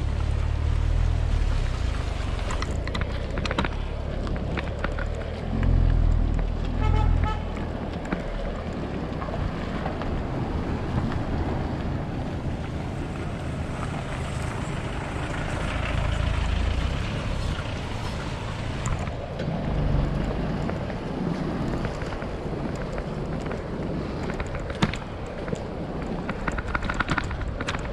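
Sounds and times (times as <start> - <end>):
wind buffeting microphone: 0.6 - 27.9.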